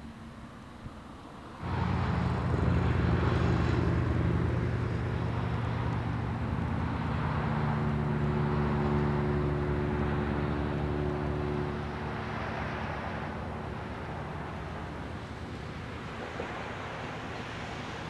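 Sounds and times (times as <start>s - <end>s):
car engine hum: 0.0s - 17.7s
tyre and road noise: 1.5s - 18.0s.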